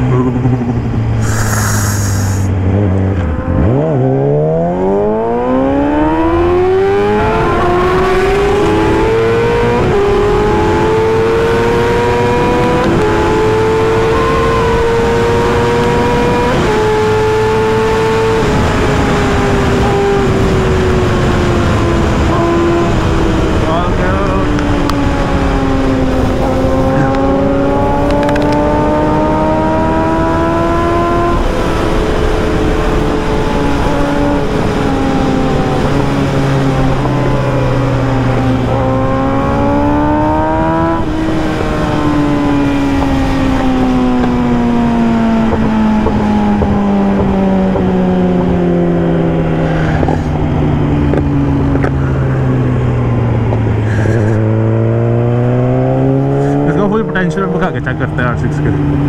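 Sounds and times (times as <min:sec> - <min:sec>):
motorcycle engine revving: 0:00.0 - 0:59.0
rushing wind noise: 0:05.4 - 0:56.8.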